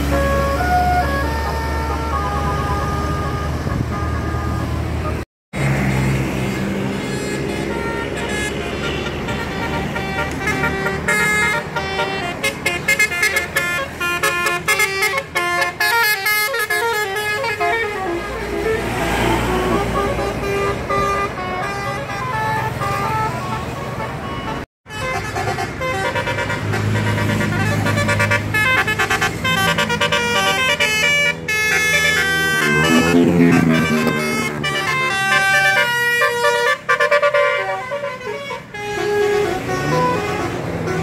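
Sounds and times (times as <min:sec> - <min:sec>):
musical bus horns: 0:00.0 - 0:05.2, 0:06.1 - 0:41.0
bus engine rumble: 0:00.0 - 0:41.0.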